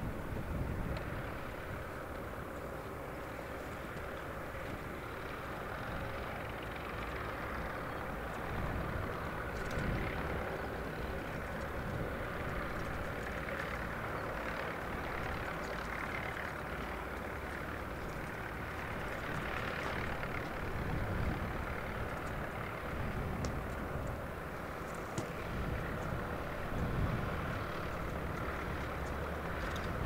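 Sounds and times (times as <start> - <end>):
tractor engines running: 0.0 - 30.0.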